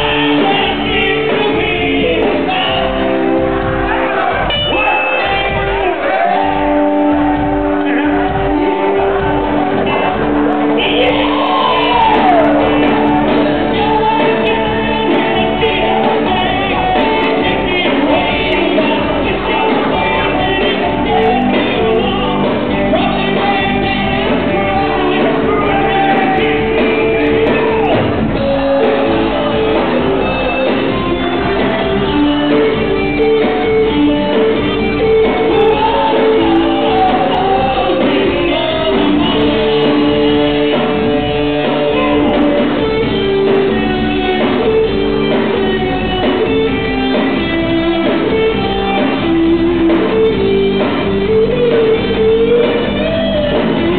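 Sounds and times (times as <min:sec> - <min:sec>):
person singing: 0:00.0 - 0:45.1
rock band playing live: 0:00.0 - 0:53.9.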